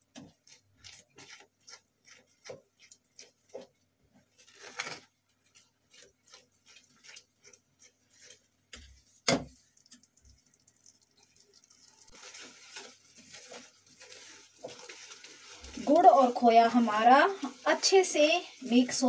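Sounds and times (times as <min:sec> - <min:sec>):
spatula stirring mixture: 0:00.0 - 0:19.0
thick mixture ticking and popping: 0:00.0 - 0:19.0.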